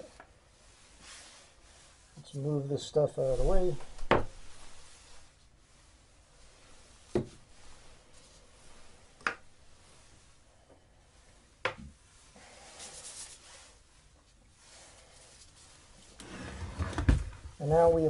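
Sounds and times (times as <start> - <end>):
soft rustle: 0.0 - 18.0.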